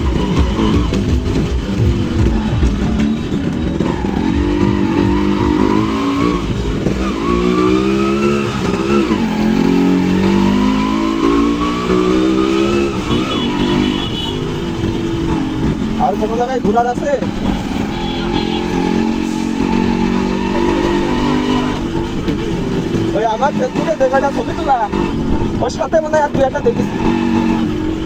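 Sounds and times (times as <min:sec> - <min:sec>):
two-stroke motorcycle accelerating: 0:00.0 - 0:28.0.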